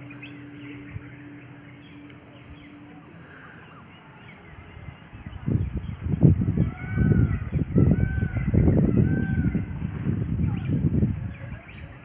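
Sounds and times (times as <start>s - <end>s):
birds chirping and calling: 0.0s - 12.0s
faint steady hum: 0.0s - 12.0s
low rumbling noise: 0.0s - 12.0s.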